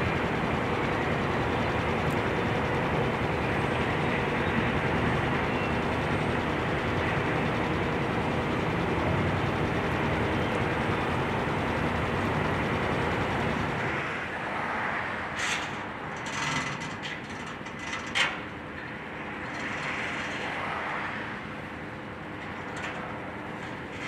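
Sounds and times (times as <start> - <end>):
heavy machinery droning: 0.0 - 24.0.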